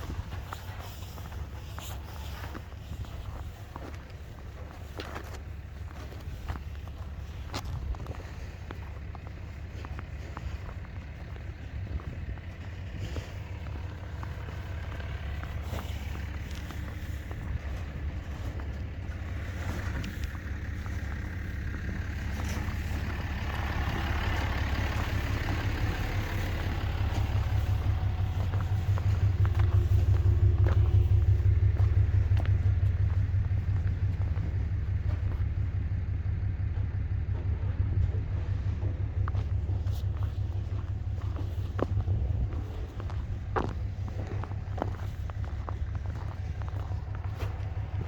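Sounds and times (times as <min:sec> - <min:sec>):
vehicle engine rumble: 0:00.0 - 0:48.0.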